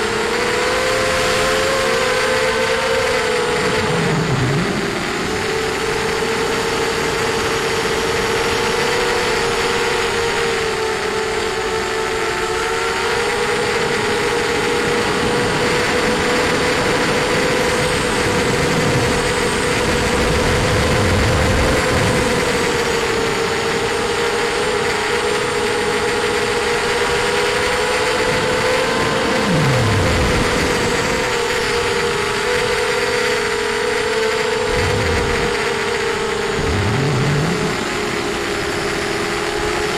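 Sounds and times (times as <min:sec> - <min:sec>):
drone motors whining: 0:00.0 - 0:39.9
low wind rumble: 0:01.8 - 0:10.9, 0:12.0 - 0:39.9.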